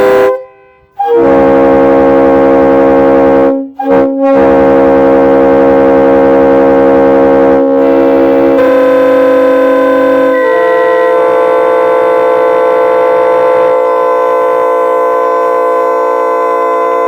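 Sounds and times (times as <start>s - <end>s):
locomotive air horn chord: 0.0s - 17.0s.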